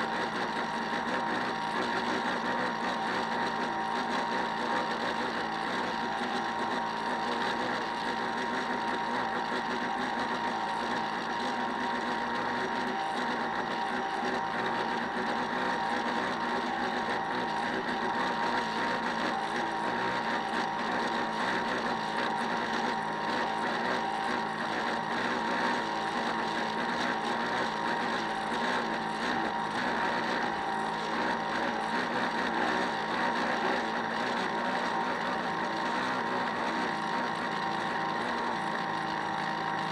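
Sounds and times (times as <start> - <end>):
small electric motor whine: 0.0 - 39.9.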